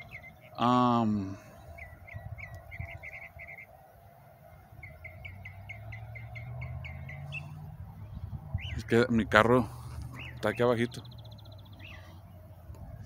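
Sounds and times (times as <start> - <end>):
songbird chirping: 0.0 - 13.0
vehicle engine hum: 0.0 - 13.0.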